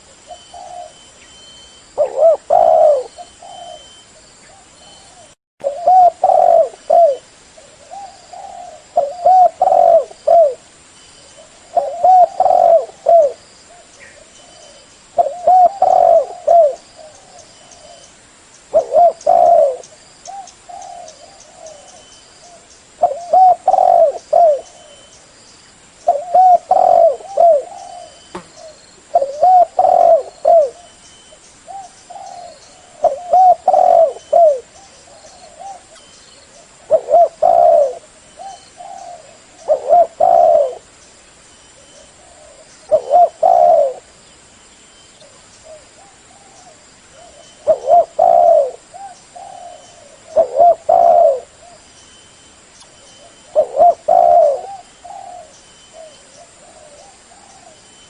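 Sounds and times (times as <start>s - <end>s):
dove cooing: 0.0s - 1.1s, 2.0s - 10.6s, 11.3s - 18.1s, 18.7s - 25.1s, 26.0s - 31.0s, 31.7s - 40.9s, 41.8s - 44.1s, 45.2s - 51.9s, 53.2s - 57.9s.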